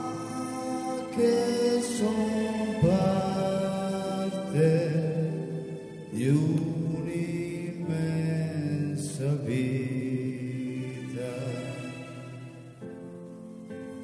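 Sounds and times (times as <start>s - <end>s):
man singing a slow hymn: 0.0s - 12.7s.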